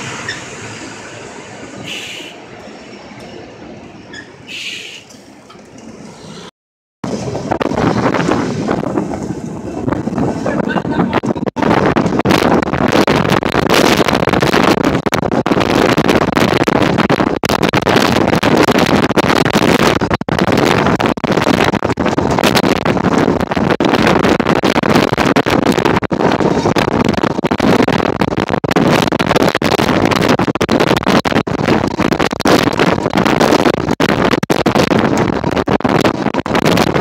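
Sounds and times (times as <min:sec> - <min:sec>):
tram running on rails: 0:00.0 - 0:37.0
wind buffeting microphone: 0:00.0 - 0:37.0.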